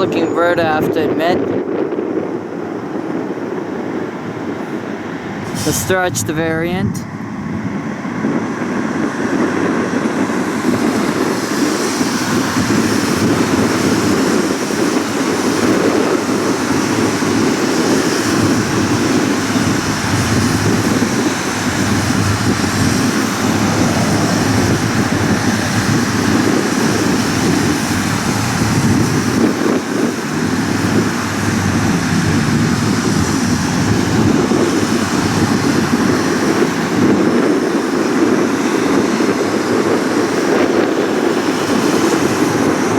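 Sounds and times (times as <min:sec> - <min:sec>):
jet engines running: 0:00.0 - 0:42.9.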